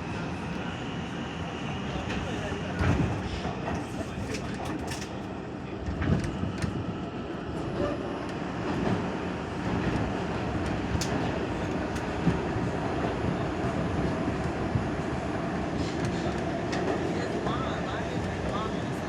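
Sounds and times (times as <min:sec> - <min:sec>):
subway wheels rumbling on rail: 0:00.0 - 0:19.0.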